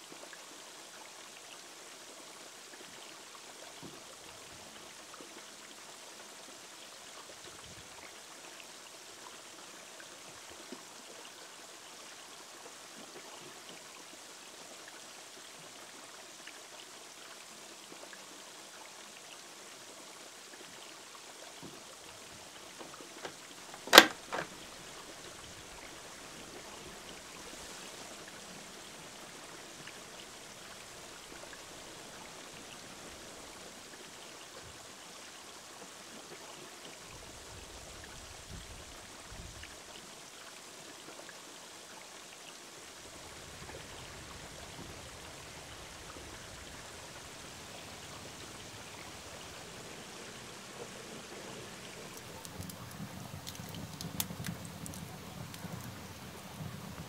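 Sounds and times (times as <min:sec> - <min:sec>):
small waterfall splashing into pond: 0:00.0 - 0:57.0.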